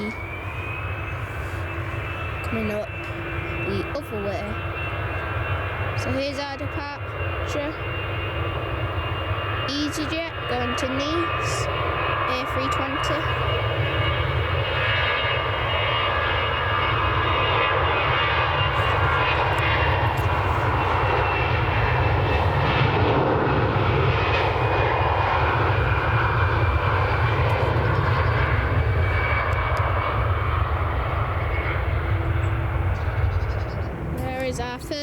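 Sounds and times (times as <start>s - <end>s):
high engine whine: 0.0s - 35.0s
jet engines roaring: 0.0s - 35.0s.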